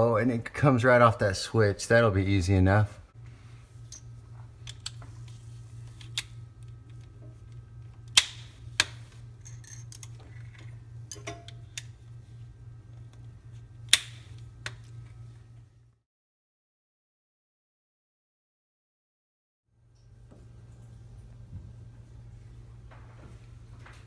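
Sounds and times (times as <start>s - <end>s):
low steady hum: 0.0s - 16.0s, 19.7s - 24.0s.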